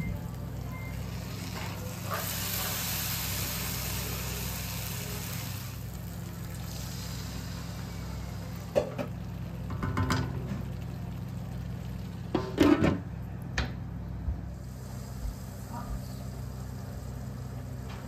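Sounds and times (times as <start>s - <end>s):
steady low hum: 0.0s - 18.0s
curry paste sizzling in a wok: 0.2s - 12.6s, 14.6s - 18.0s.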